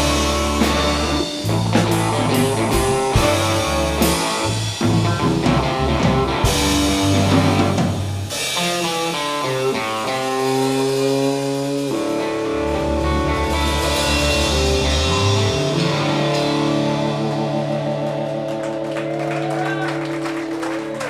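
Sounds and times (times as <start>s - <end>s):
drums: 0.0s - 21.0s
electric guitar: 0.0s - 21.0s.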